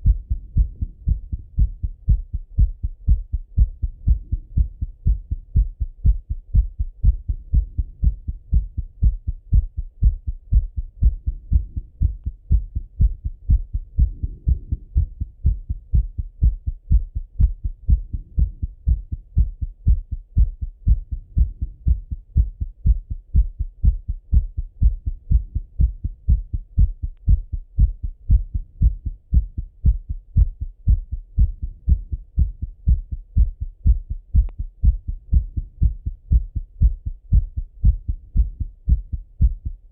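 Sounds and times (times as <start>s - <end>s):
heart thumping through stethoscope: 0.0s - 39.9s.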